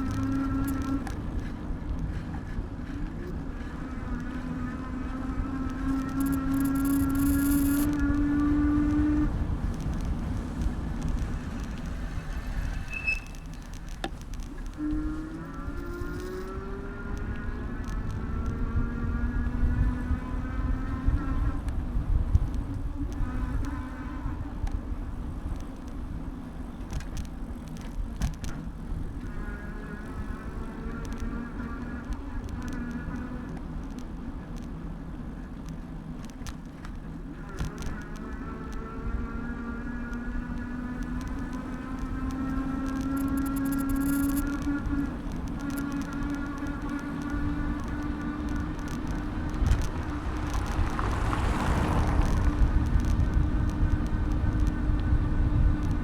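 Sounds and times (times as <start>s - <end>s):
buzzing whine: 0.0s - 56.0s
faint clicks and rattles: 0.0s - 56.0s
wind and road rumble: 0.0s - 56.0s.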